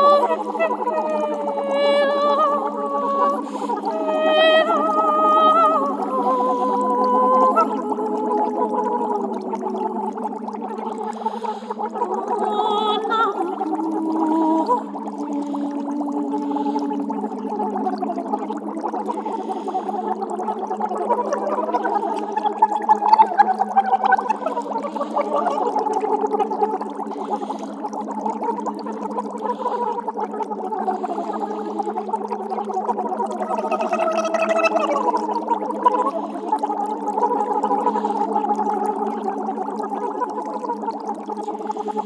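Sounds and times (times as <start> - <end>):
layered wordless vocals: 0.0 - 42.0.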